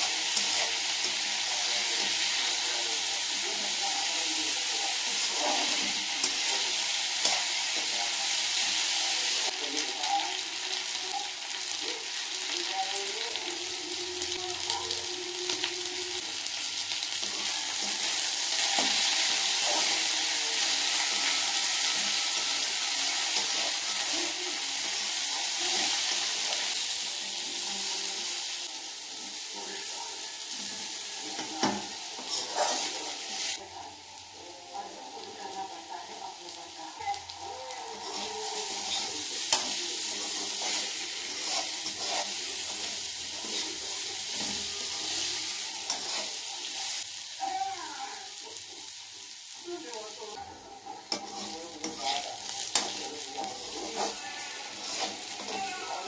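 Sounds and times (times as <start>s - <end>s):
potatoes sizzling in hot oil: 0.0s - 56.0s.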